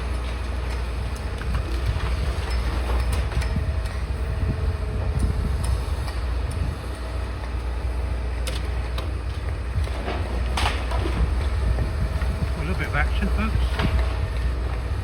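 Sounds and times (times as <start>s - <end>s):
excavator diesel engine rumbling: 0.0s - 15.0s
wind buffeting microphone: 0.4s - 15.0s.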